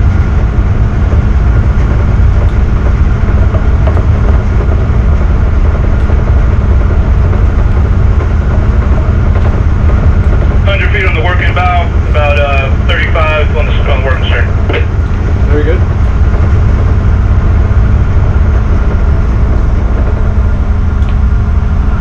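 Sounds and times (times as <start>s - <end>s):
diesel engines rumbling: 0.0s - 22.0s
propeller churning water: 0.0s - 22.0s.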